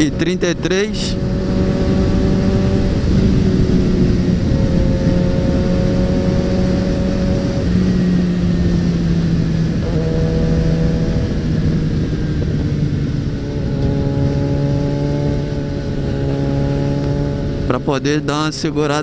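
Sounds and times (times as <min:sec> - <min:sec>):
motorcycle engine cruising: 0:00.0 - 0:19.0
wind noise on microphone: 0:00.0 - 0:19.0.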